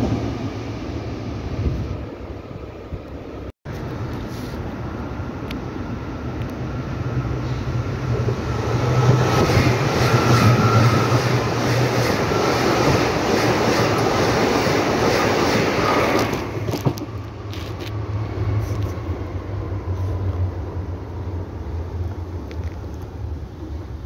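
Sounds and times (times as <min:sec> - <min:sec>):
faint train whine: 0:00.0 - 0:24.0
train wheels rumbling on rails: 0:00.0 - 0:24.0.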